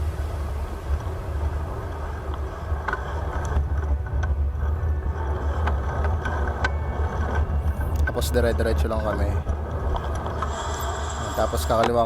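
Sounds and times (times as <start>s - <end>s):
road and traffic noise: 0.0s - 12.0s
wind rumbling on microphone: 0.0s - 12.0s.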